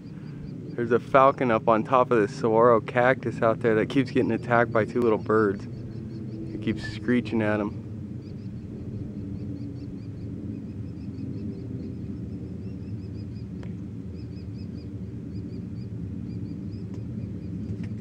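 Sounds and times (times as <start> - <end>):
shrill bird calls: 0.0 - 0.9, 4.1 - 17.9
steady low rumble: 0.0 - 18.0.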